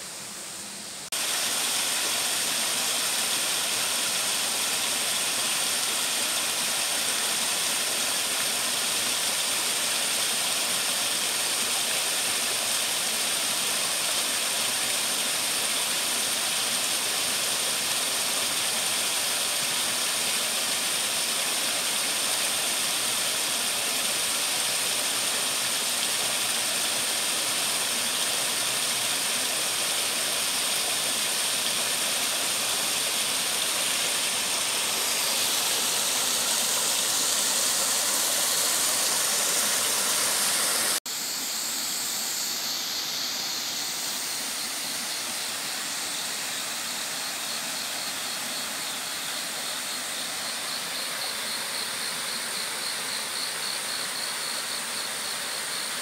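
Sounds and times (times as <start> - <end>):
stream rushing over boulders: 0.0 - 56.0.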